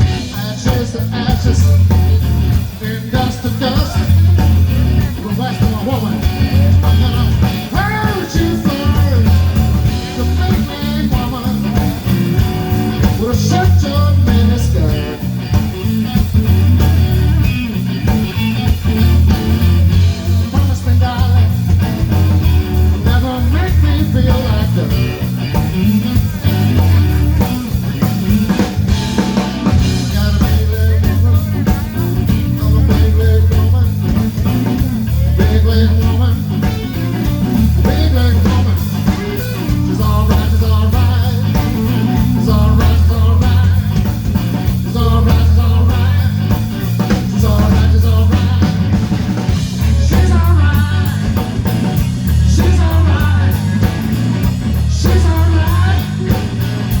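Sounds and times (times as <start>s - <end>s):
band playing slow blues: 0.0s - 57.0s
electric guitar: 0.0s - 57.0s
repeating low bass figure: 0.0s - 57.0s.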